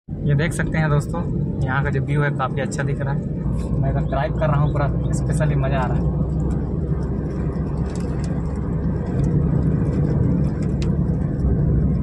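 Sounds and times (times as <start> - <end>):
car engine and tyre rumble: 0.1 - 12.0.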